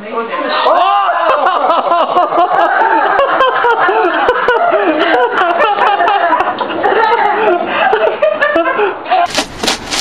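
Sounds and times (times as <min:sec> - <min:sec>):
high-pitched voices laughing: 0:00.5 - 0:09.3.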